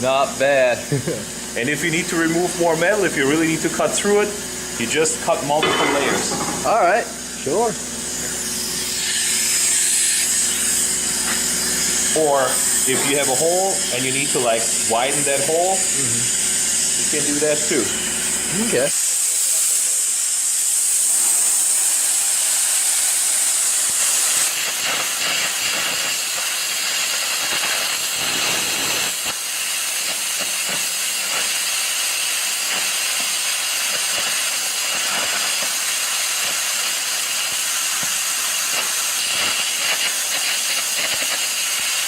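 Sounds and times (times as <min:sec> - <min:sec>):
arc gouging hiss and crackle: 0:06.6 - 0:42.0.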